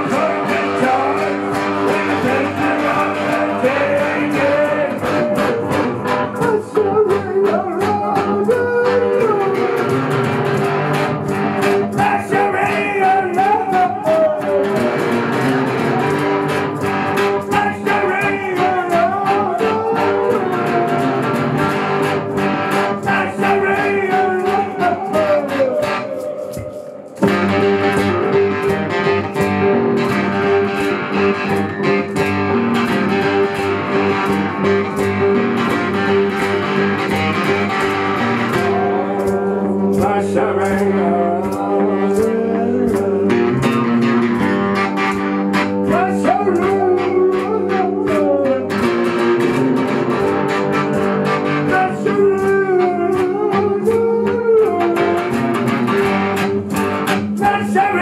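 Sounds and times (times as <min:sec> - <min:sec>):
blues-rock on guitars: 0:00.0 - 0:58.0
strummed guitar chords: 0:00.0 - 0:58.0
wavering guitar lead line: 0:00.0 - 0:58.0.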